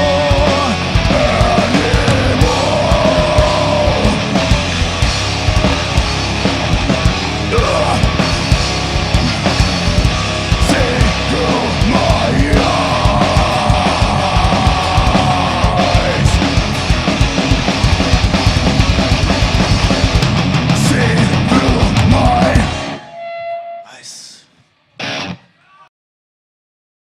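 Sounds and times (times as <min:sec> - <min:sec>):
live rock band playing: 0:00.0 - 0:23.6, 0:25.0 - 0:25.4.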